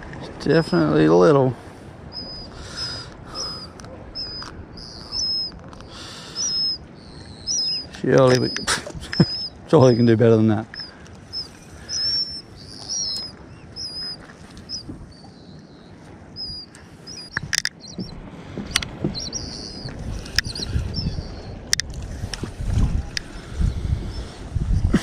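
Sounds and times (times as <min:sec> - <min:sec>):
small birds chirping: 0:02.1 - 0:21.6, 0:23.4 - 0:24.9.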